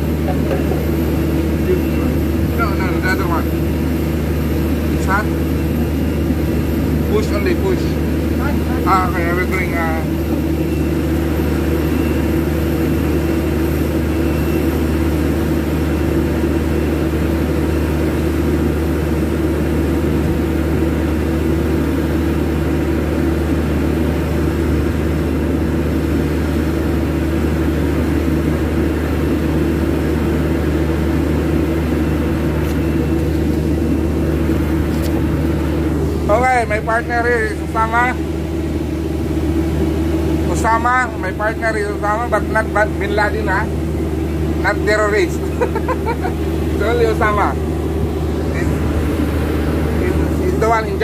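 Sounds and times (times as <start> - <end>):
loud machinery drone: 0.0 - 51.0.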